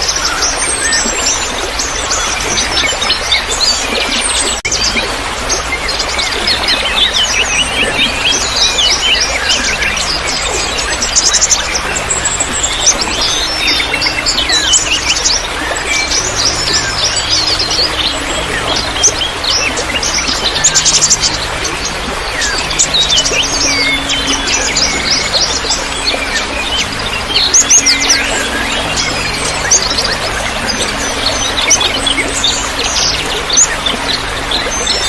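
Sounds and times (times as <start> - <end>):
songbirds chirping and trilling: 0.0 - 35.0
water trickling: 0.0 - 35.0.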